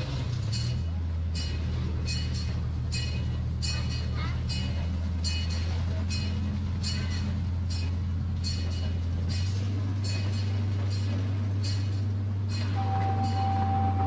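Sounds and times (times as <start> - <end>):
locomotive low drone: 0.0 - 14.0
wheels clicking on track: 0.0 - 14.0.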